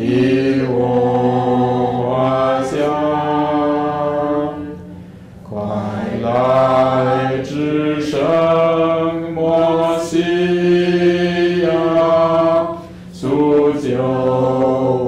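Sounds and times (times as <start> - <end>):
group singing a slow hymn: 0.0 - 15.0.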